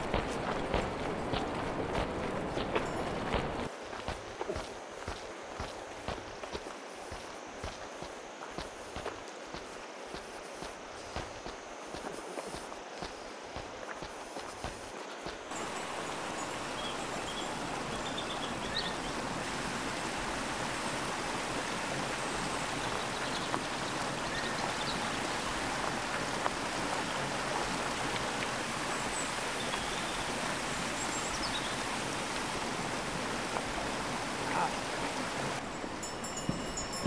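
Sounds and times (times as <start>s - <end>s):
stream rushing over boulders: 0.0s - 37.0s.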